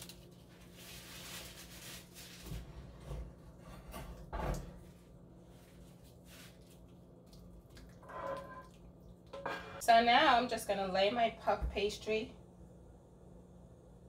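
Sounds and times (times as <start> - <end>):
steady low hum: 2.2 - 14.0.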